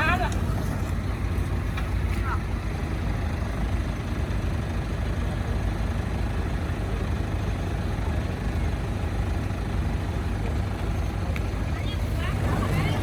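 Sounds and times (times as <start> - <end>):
heavy diesel machinery running: 0.0 - 13.0.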